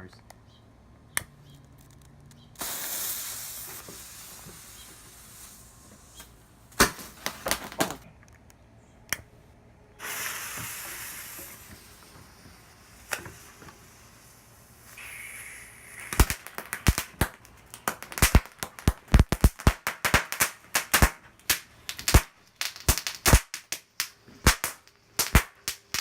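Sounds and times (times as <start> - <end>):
firecracker hissing: 2.5 - 8.0, 9.9 - 26.0
firecracker sharp pops: 2.6 - 8.0, 10.0 - 26.0.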